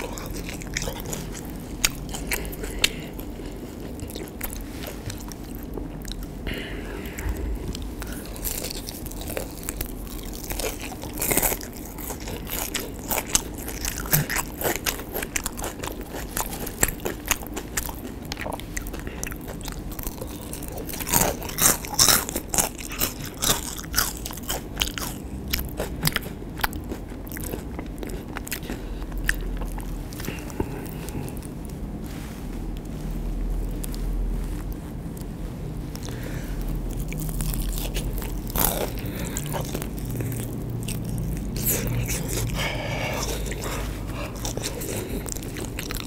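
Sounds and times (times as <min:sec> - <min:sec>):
crunchy fried fritters being chewed: 0:00.0 - 0:46.0.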